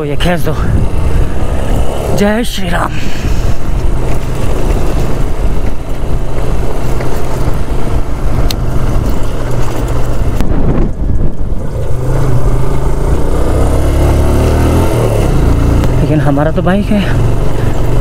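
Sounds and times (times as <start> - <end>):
wind rushing: 0.0 - 16.0
motorcycle engine rumbling: 0.0 - 18.0.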